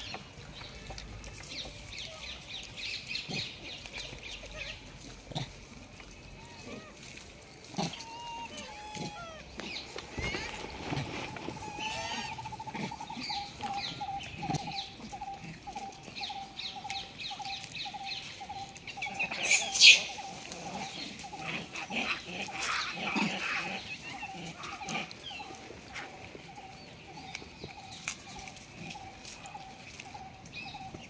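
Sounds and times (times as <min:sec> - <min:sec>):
monkeys eating: 0:00.0 - 0:31.0
rustling and crackling of food: 0:00.0 - 0:31.0.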